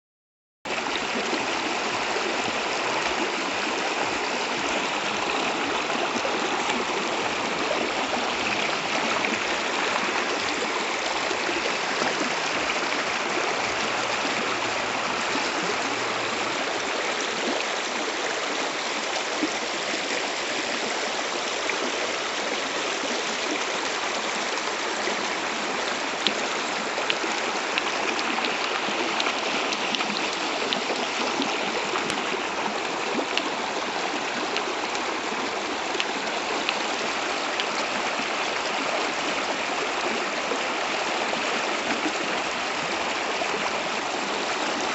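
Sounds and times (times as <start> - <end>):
running water: 0.7 - 44.9.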